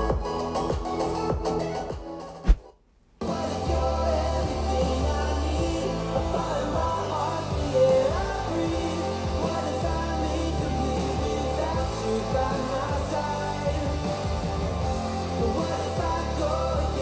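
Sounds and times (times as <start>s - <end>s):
pop song with singing: 0.0s - 1.9s, 3.2s - 17.0s.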